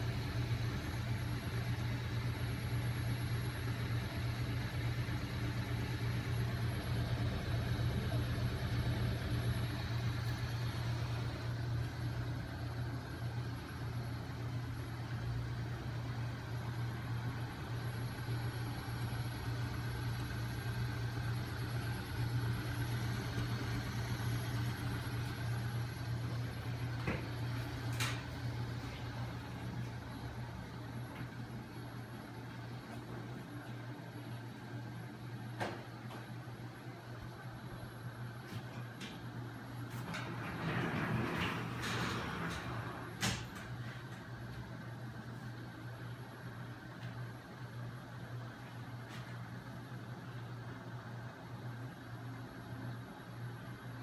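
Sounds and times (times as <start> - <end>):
flywheel engine mechanical hum: 0.0 - 54.0.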